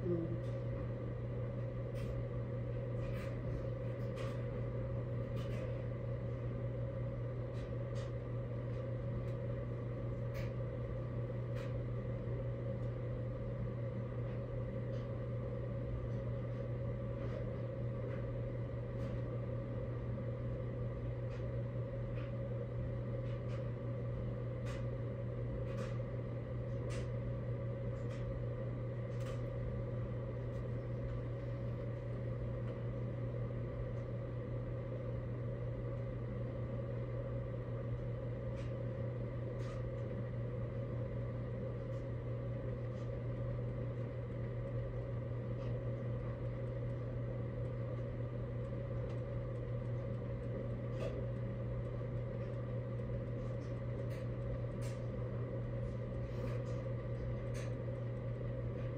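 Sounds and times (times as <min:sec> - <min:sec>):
low mechanical hum: 0:00.0 - 0:58.9.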